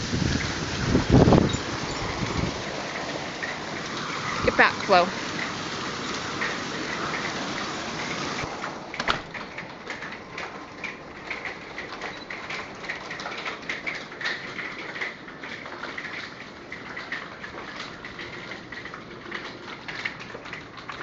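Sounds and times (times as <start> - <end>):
hail falling hard: 0.0 - 21.0.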